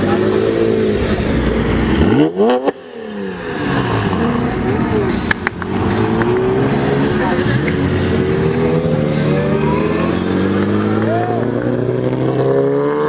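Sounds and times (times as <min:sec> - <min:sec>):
car engine revving: 0:00.0 - 0:13.0
cars pulling away: 0:00.0 - 0:13.0.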